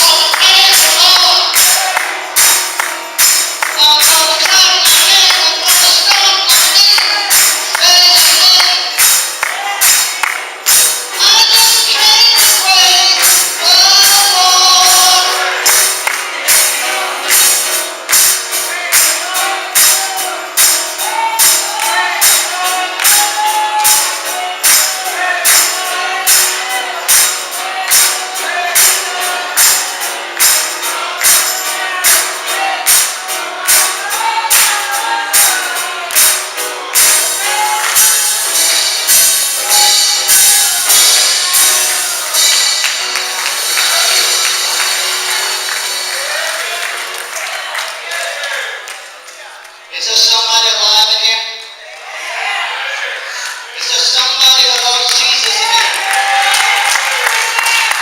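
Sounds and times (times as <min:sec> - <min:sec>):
tambourine beat: 0:00.0 - 0:47.6
gospel singing: 0:00.0 - 0:58.0.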